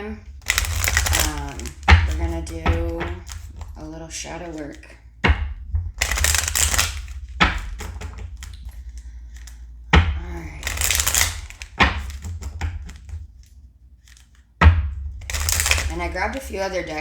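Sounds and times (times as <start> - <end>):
cards being shuffled: 0.3 - 5.0, 5.9 - 14.5, 15.2 - 17.0.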